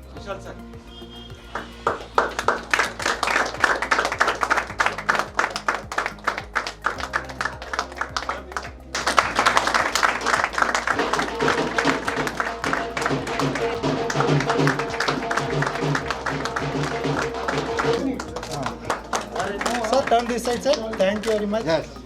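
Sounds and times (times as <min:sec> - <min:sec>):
background music: 0:00.0 - 0:22.0
people clapping: 0:00.8 - 0:22.0.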